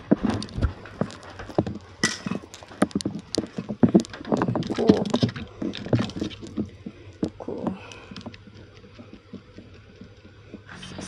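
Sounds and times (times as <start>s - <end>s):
footsteps: 0.0s - 11.0s.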